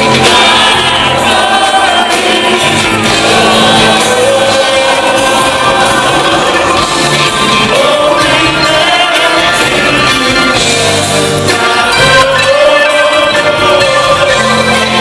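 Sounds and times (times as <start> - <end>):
drums: 0.0 - 15.0
horn section: 0.0 - 15.0
live band playing loud: 0.0 - 15.0
people singing: 0.0 - 15.0.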